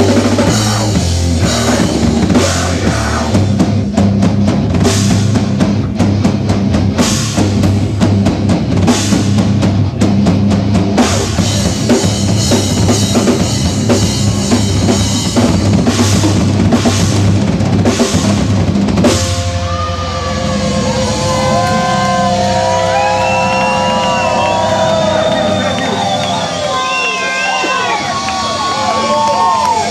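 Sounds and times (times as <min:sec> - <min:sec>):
drum kit: 0:00.0 - 0:29.9
live rock band playing: 0:00.0 - 0:29.9.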